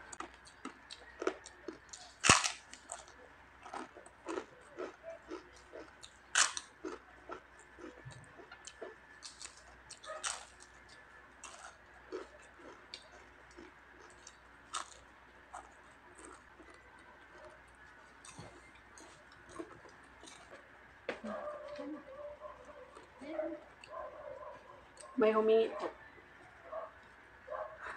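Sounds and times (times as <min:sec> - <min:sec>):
crunchy chewing: 0:00.0 - 0:25.2.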